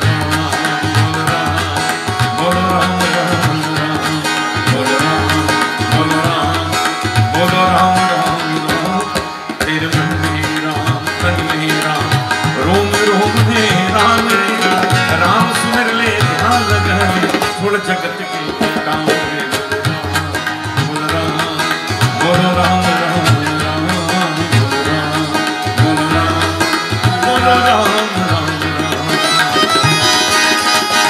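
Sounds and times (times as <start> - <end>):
guitar: 0.0 - 31.0
harmonium: 0.0 - 31.0
keyboard: 0.0 - 31.0
tabla drumming: 0.0 - 31.0.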